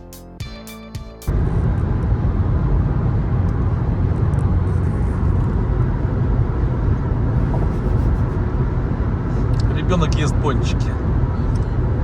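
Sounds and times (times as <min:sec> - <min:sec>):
car engine and tyre rumble: 0:01.3 - 0:12.0.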